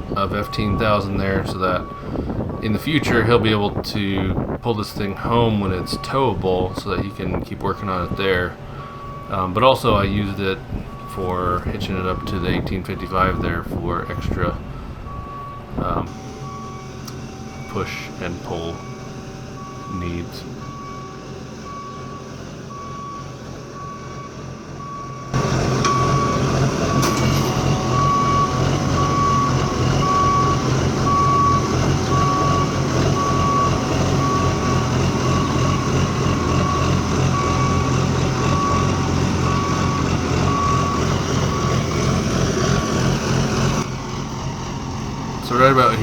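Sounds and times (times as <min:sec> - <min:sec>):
backup alarm beeping: 0:00.0 - 0:04.5, 0:05.2 - 0:43.8
diesel engine running: 0:00.0 - 0:46.0.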